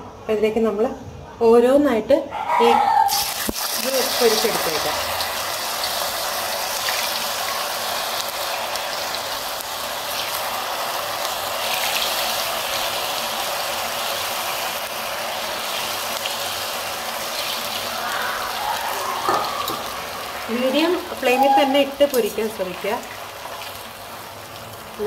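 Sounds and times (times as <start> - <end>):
hot oil sizzling and crackling: 3.1 - 25.0.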